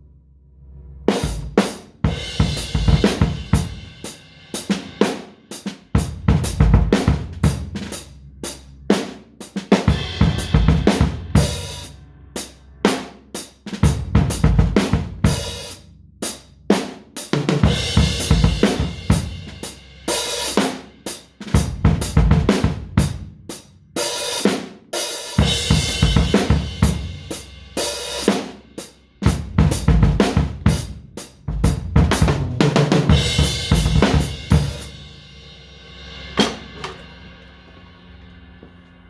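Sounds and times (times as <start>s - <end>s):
drum kit playing fills: 1.0s - 39.0s.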